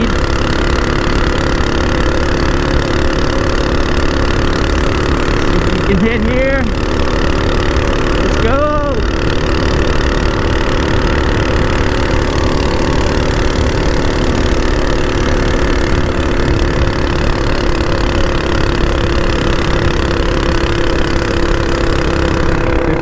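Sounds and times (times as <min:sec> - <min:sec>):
mini bike engine at high revs: 0:00.0 - 0:23.0.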